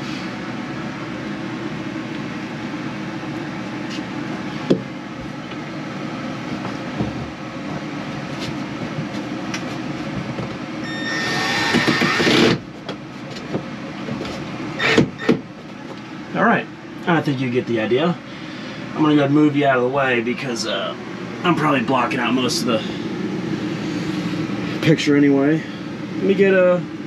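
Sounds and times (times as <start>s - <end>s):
background hum: 0.0s - 27.0s.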